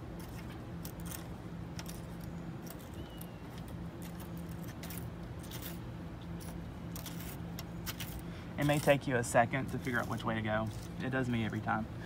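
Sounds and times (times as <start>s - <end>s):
steady low hum: 0.0s - 12.0s
metallic clicks and scrapes: 0.1s - 11.8s.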